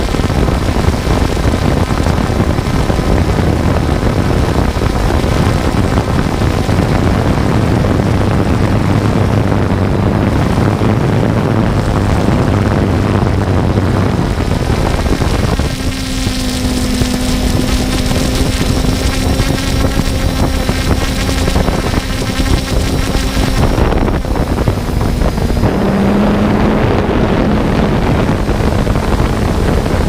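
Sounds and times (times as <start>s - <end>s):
drone propellers whirring: 0.0s - 30.0s
wind rush: 0.0s - 30.0s.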